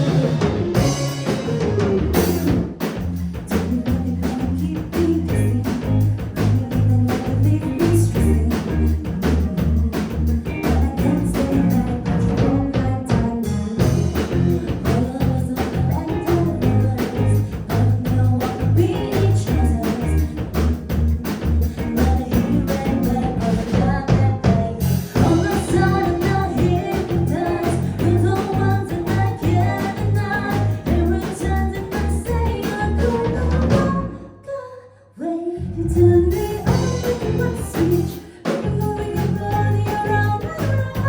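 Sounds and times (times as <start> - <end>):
live band playing pop music: 0.0 - 34.2, 36.0 - 41.0.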